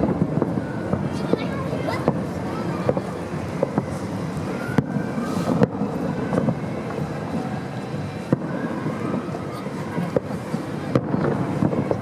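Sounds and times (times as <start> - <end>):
distant fireworks rumble: 0.0 - 12.0
fireworks banging: 0.0 - 12.0.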